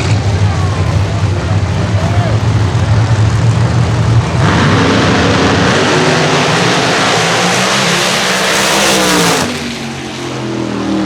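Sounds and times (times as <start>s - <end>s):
drag car engines at full throttle: 0.0s - 11.0s.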